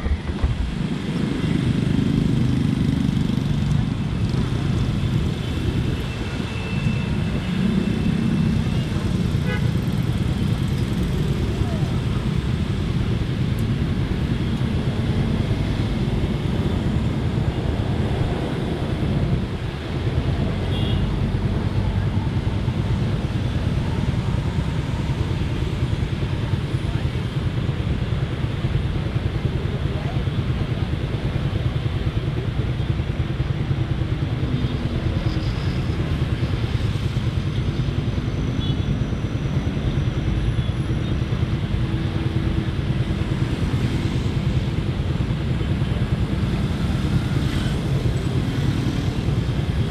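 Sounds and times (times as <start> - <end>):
traffic vehicles: 0.0 - 49.9.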